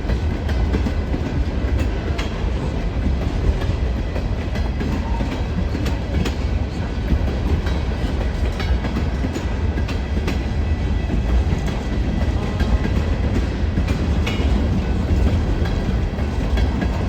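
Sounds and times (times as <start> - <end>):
train rumbling past: 0.0 - 17.0
wheels clicking over rail joints: 0.1 - 17.0.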